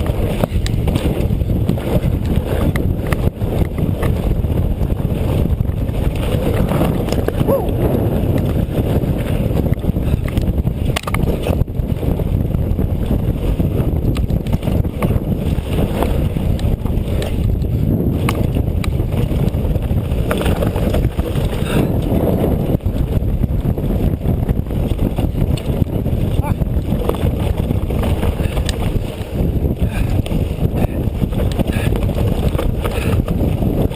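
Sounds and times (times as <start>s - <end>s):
bike rattling over rough trail: 0.0s - 33.9s
wind rumbling on microphone: 0.0s - 33.9s.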